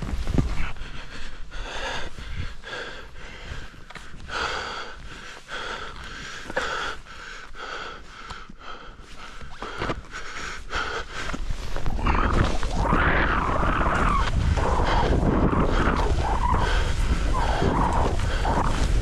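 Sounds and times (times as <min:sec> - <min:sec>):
heavy rapid breathing: 0:00.4 - 0:19.0.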